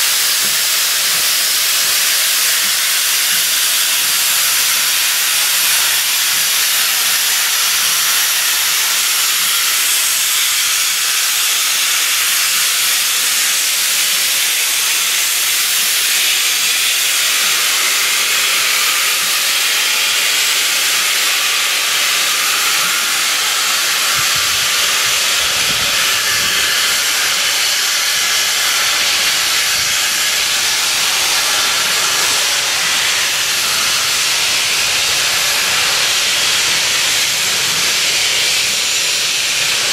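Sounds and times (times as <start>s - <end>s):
steam locomotive venting steam: 0.0s - 39.9s.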